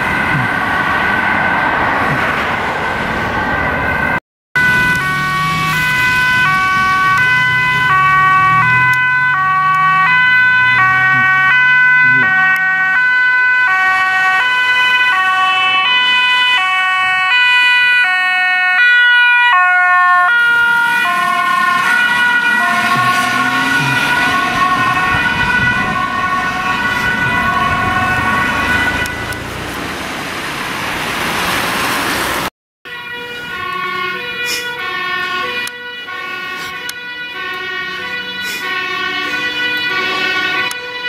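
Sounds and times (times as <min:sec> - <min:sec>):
ambulance two-tone siren: 0:00.0 - 0:29.6, 0:32.8 - 0:41.0.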